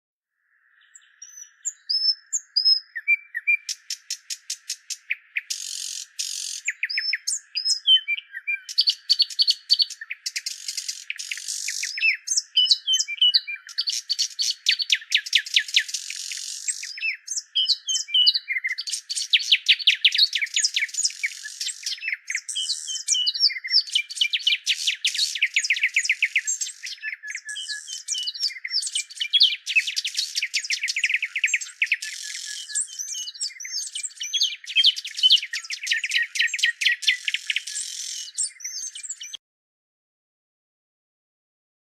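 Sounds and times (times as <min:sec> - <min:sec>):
birds chirping: 0:00.5 - 0:39.4.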